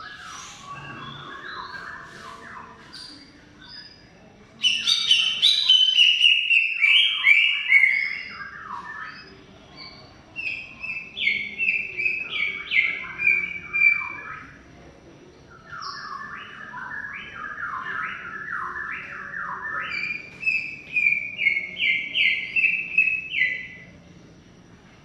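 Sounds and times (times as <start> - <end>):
bird singing whistled notes: 0.0 - 14.6, 15.5 - 23.9.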